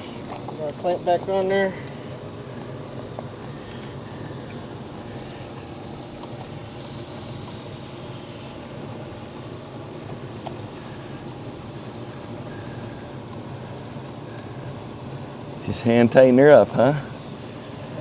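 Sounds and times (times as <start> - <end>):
machinery humming and rumbling: 0.0 - 18.0.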